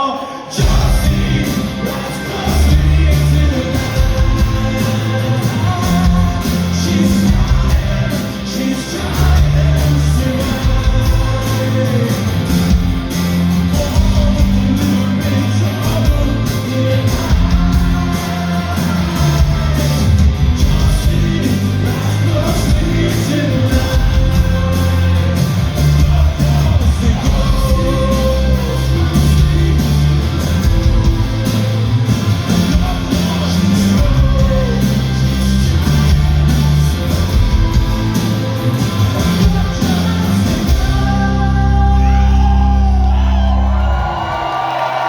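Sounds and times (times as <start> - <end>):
person singing: 0.0 - 31.7, 32.4 - 44.2
rock band playing live: 0.0 - 45.0.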